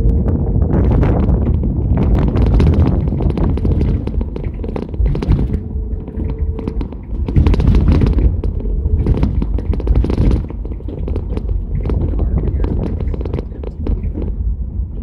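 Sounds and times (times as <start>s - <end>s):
engine and road rumble: 0.0s - 15.0s
sharp clicks and knocks: 0.1s - 14.4s.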